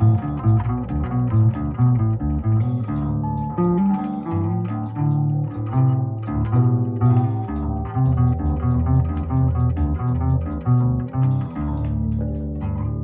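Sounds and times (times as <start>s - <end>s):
rock bass guitars: 0.0s - 13.0s.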